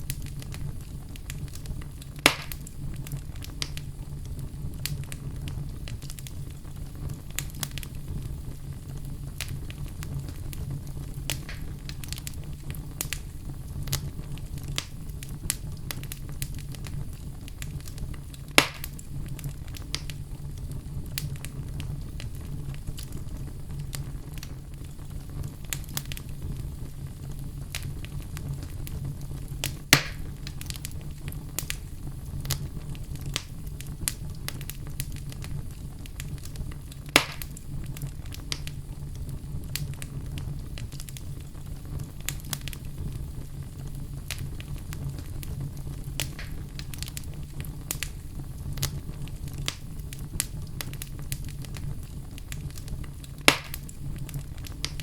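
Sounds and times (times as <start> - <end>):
loud fire pops: 0.0 - 55.0
wood fire crackling: 0.0 - 55.0.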